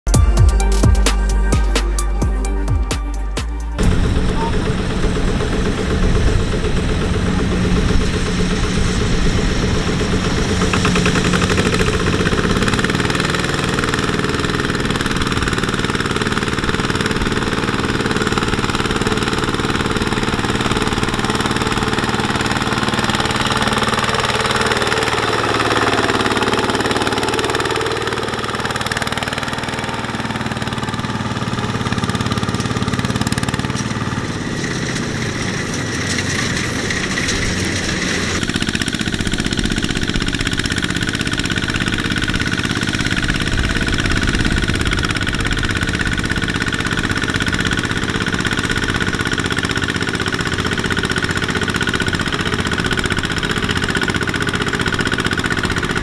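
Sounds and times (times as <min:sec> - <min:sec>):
diesel engine running steadily: 0:00.1 - 0:56.0.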